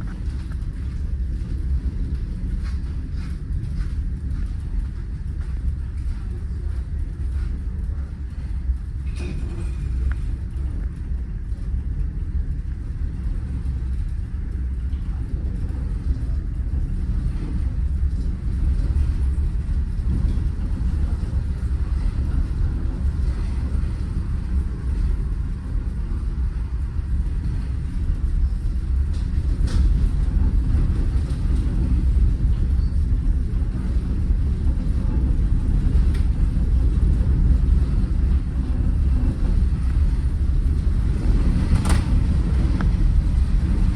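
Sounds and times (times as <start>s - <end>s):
ferry engine rumble: 0.0s - 43.9s.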